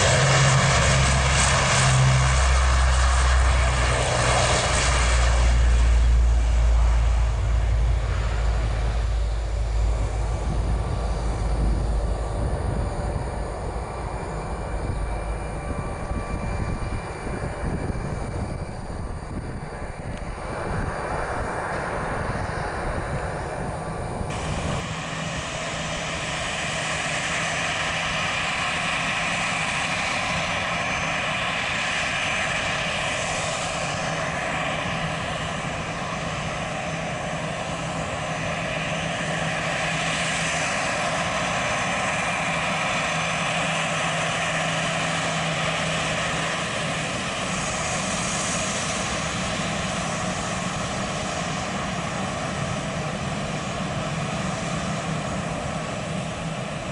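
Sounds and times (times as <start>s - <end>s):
jet engines whining at idle: 0.0s - 56.9s
turboprop aircraft climbing: 0.0s - 56.9s.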